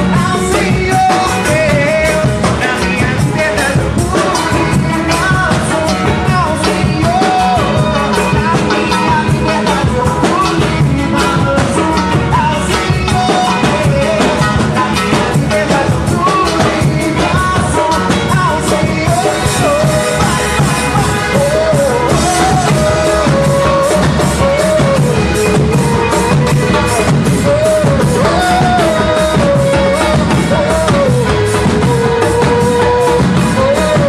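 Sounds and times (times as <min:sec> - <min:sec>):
person singing: 0:00.0 - 0:34.0
worship band playing: 0:00.0 - 0:34.0.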